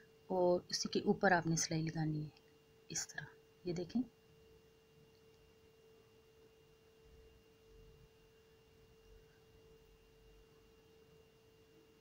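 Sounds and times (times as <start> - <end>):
faint steady tone: 0.0 - 12.0.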